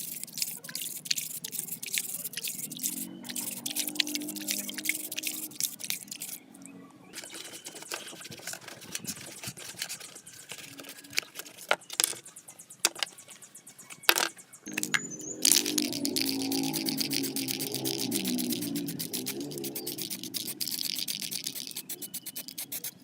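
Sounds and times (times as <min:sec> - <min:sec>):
faint background music: 0:00.0 - 0:23.0.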